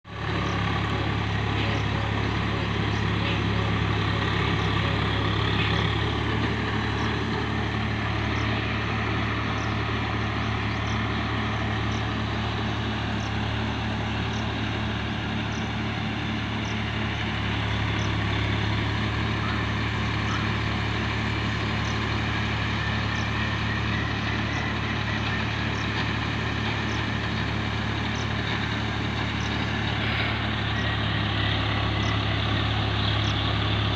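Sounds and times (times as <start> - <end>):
low motor drone: 0.0 - 33.9.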